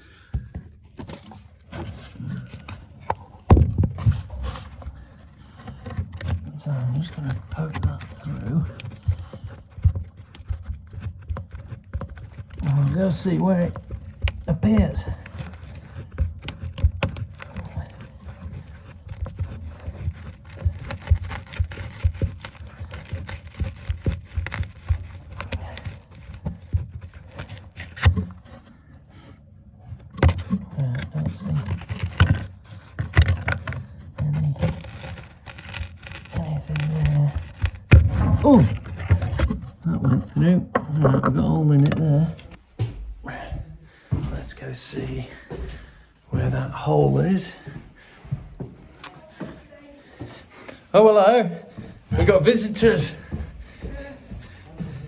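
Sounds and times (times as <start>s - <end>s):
knocks and scrapes on floorboards: 0.2s - 44.7s.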